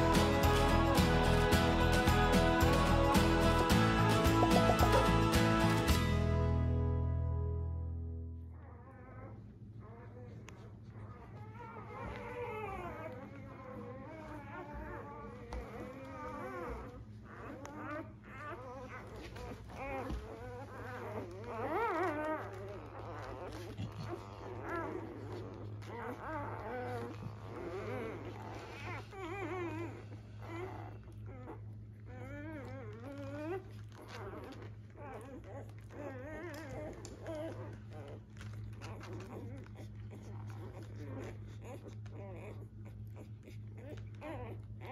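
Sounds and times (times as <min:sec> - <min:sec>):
puppies squeaking and whimpering: 0:00.0 - 0:06.0, 0:08.6 - 0:44.9.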